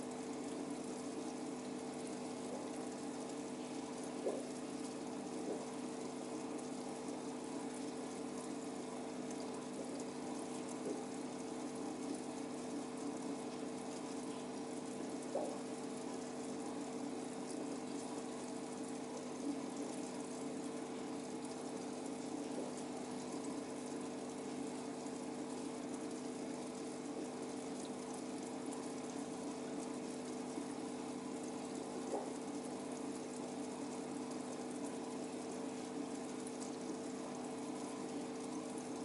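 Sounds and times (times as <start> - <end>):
aquarium pump humming: 0.0 - 39.0
water bubbling in tank: 0.0 - 39.0
faint ticks: 0.2 - 39.0.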